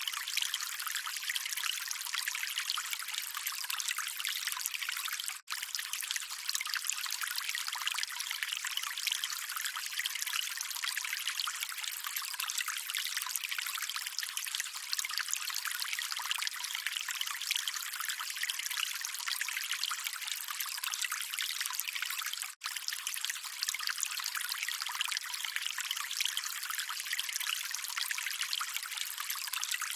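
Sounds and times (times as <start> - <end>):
water trickling: 0.0 - 29.9.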